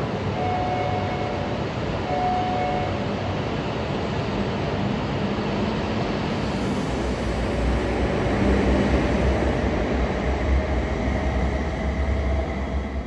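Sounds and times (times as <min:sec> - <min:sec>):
train rumbling and rushing: 0:00.0 - 0:13.0.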